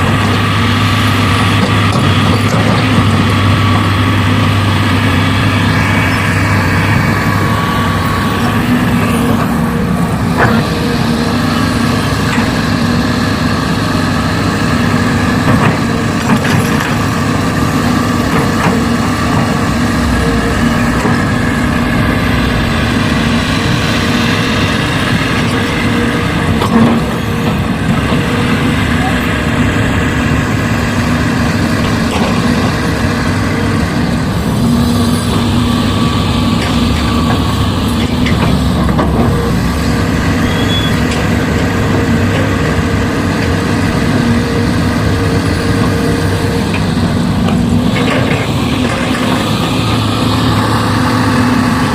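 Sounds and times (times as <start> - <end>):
heavy vehicle engine running: 0.0 - 51.9.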